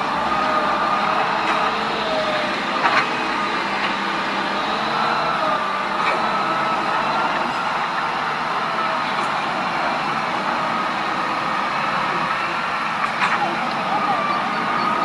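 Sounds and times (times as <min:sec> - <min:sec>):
constant rushing noise: 0:00.0 - 0:15.0
vehicle engine running: 0:00.0 - 0:15.0.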